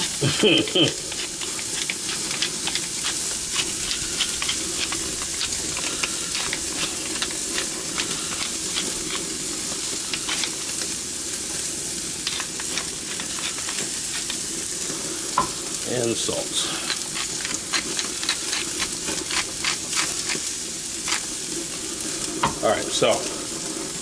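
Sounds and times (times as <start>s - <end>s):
fat crackling and popping: 0.0s - 24.0s
steaks sizzling on grill: 0.0s - 24.0s.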